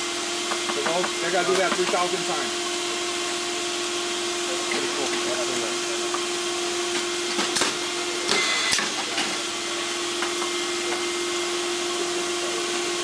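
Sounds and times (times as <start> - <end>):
seeder vacuum hum and hiss: 0.0 - 13.0.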